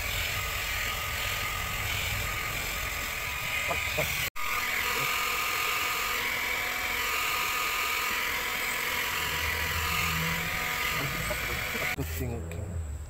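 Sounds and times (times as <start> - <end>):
hot-air welding gun blower: 0.0 - 12.2.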